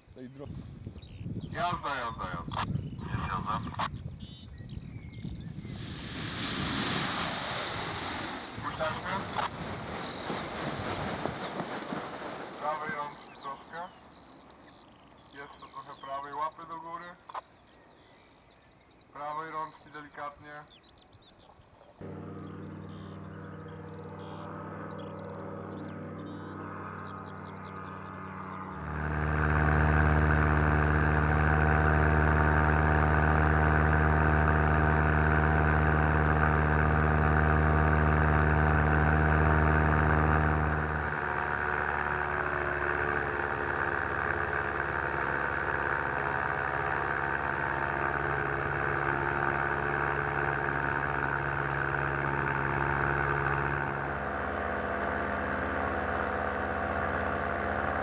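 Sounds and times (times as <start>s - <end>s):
engine running steadily: 5.4s - 16.6s, 22.0s - 58.0s.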